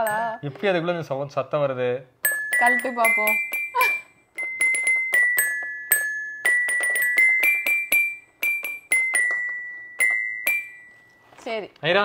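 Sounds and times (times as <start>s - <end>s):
struck metallic toy notes: 0.0s - 0.6s, 2.2s - 11.6s.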